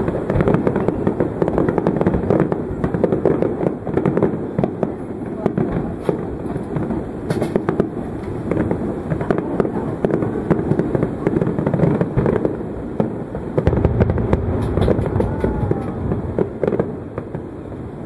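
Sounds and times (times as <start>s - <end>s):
fireworks cracking and popping: 0.0s - 18.0s
rumble of fireworks booms: 0.0s - 18.0s.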